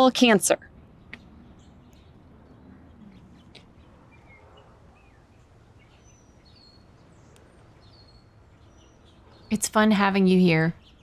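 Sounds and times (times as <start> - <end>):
bird chirps: 0.6 - 11.0.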